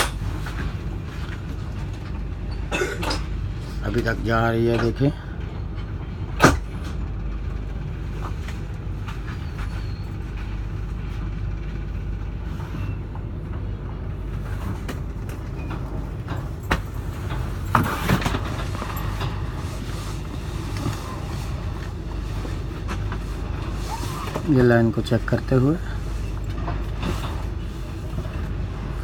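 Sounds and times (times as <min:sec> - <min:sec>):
train wagons rumbling past: 0:00.0 - 0:29.0.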